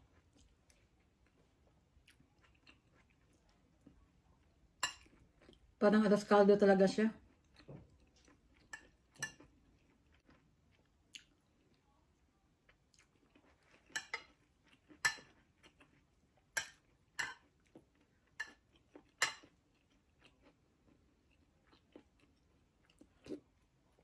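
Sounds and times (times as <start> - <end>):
chewing: 0.0 - 5.7, 7.2 - 12.0, 12.6 - 24.0.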